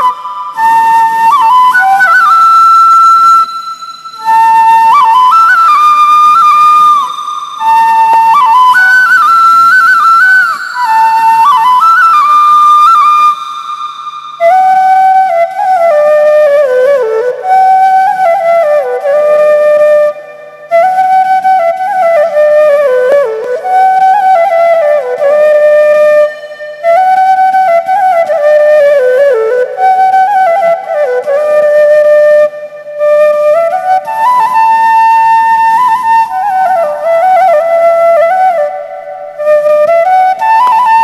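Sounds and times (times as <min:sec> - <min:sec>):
solo flute melody: 0:00.0 - 0:41.0.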